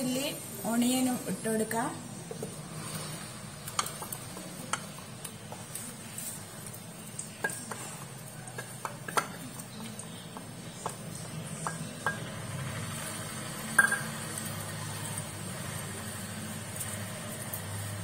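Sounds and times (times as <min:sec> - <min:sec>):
low frying noise: 0:00.0 - 0:18.0.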